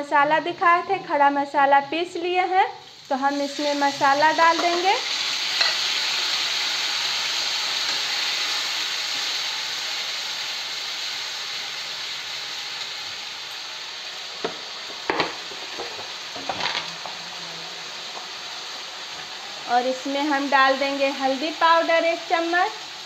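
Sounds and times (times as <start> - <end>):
onions and spices sizzling in oil: 0.0 - 23.0.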